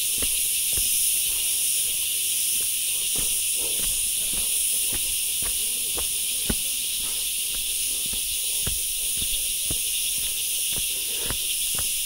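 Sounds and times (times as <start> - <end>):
footsteps on dirt trail: 0.0 - 12.0
high-pitched hiss: 0.0 - 12.0.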